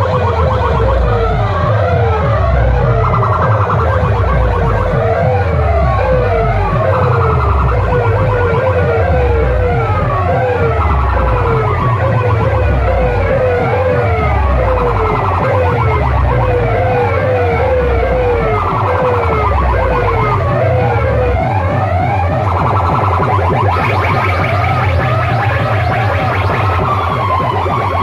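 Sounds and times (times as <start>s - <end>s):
buzzy synth tone: 0.0s - 28.0s
falling siren-like sweeps: 0.0s - 28.0s
heavy pulsing bass: 0.0s - 28.0s.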